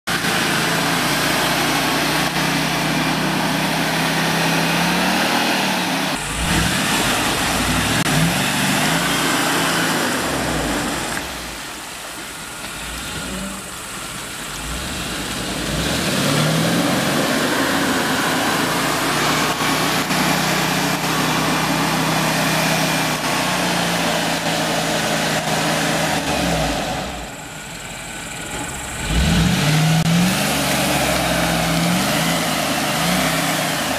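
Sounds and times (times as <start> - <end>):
engine revving through mud: 0.1 - 27.4, 28.3 - 33.9.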